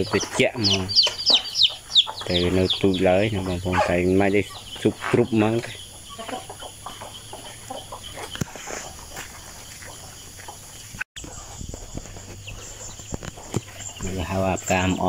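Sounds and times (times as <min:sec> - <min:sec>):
farm animals: 0:00.0 - 0:15.0.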